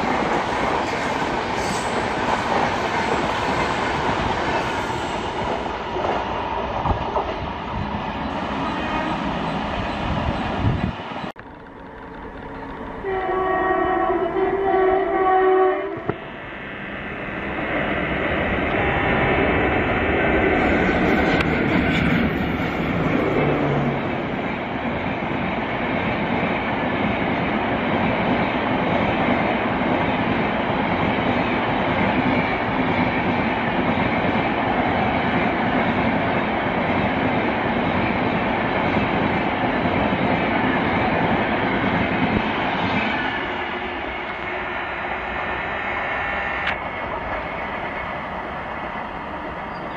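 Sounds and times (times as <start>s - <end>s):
electric locomotives passing: 0.0s - 49.9s
wheels rumbling and rattling on rail: 0.0s - 49.9s.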